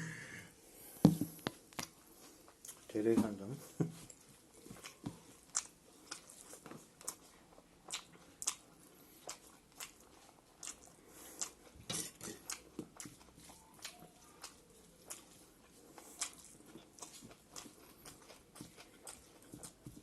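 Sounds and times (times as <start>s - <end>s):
person chewing with wet smacks: 1.0s - 20.0s.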